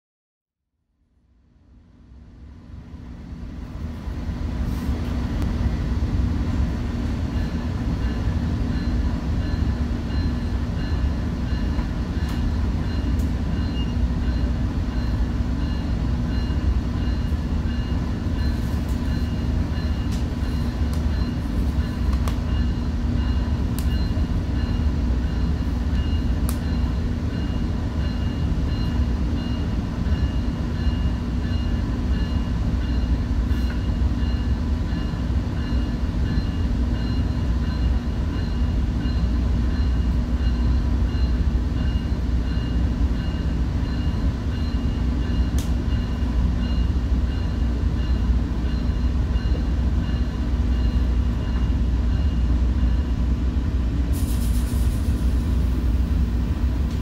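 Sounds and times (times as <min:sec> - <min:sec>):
train rumble inside coach: 0:00.8 - 0:57.0.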